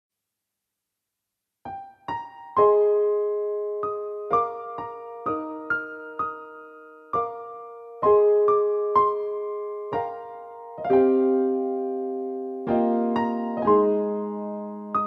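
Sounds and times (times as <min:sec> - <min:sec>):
slow piano music: 0:01.7 - 0:15.0.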